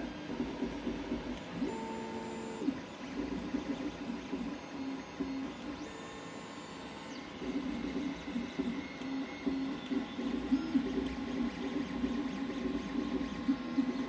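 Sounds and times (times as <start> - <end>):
printer stepper motors whining: 0.1 - 14.0.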